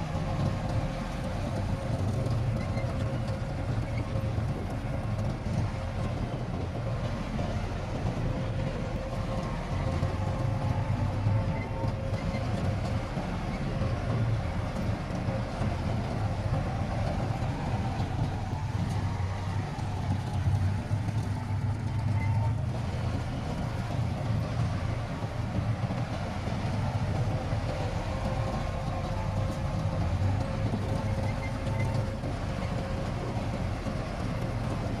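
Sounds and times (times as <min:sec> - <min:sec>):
diesel engine rumbling: 0:00.0 - 0:35.0.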